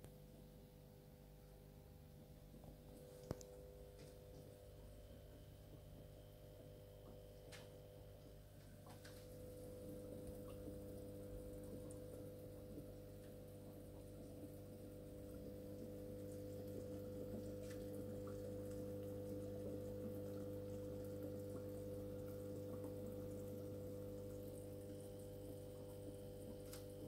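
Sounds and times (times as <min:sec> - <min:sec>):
aquarium hum: 0:00.0 - 0:27.0
bubbling and trickling water: 0:02.2 - 0:27.0.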